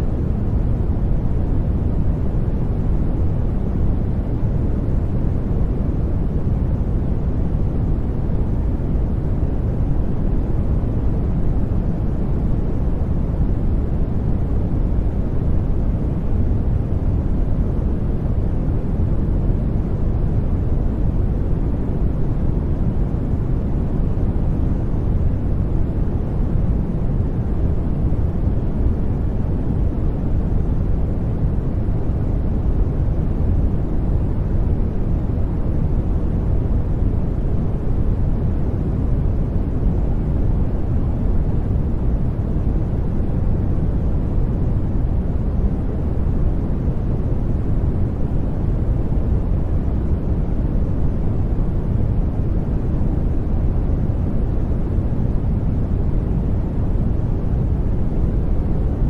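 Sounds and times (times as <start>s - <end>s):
deep steady generated noise: 0.0s - 59.0s.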